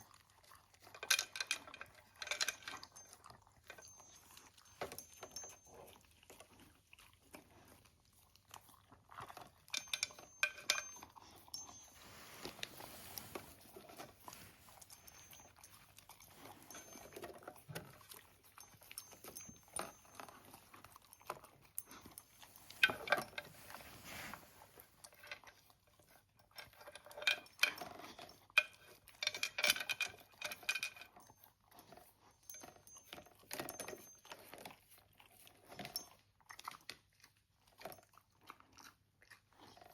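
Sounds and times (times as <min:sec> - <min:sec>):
pet chewing crunchy food: 0:00.0 - 0:39.9.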